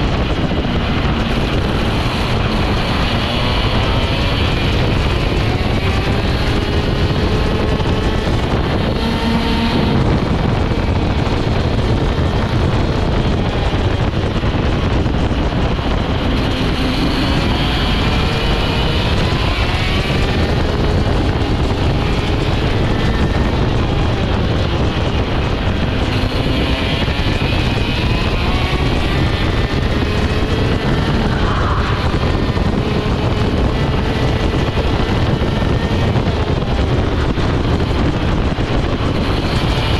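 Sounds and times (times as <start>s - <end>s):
kart engine revving: 0.0s - 39.9s
wind on microphone: 0.0s - 39.9s.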